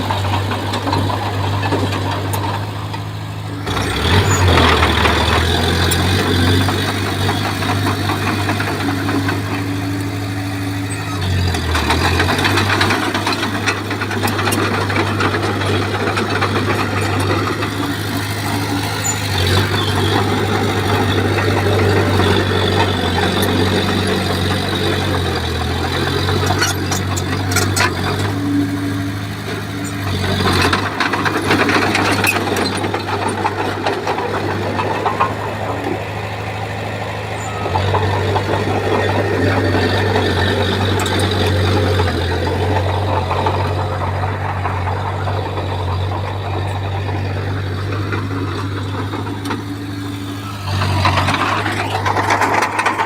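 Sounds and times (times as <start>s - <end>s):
bulldozer diesel engine under load: 0.0s - 53.0s
track and blade clatter: 0.0s - 53.0s.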